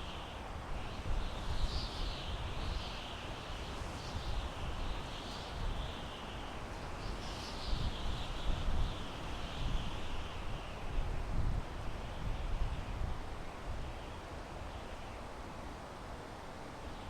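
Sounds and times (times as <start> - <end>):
wind through pine trees: 0.0 - 17.0.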